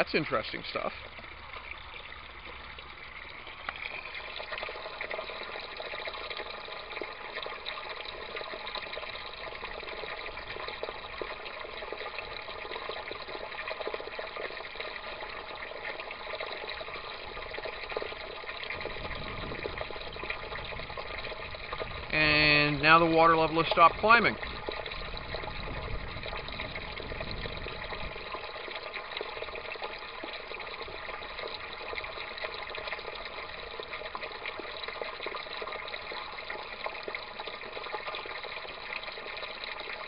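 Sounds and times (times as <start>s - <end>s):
water running and splashing: 0.0s - 40.0s.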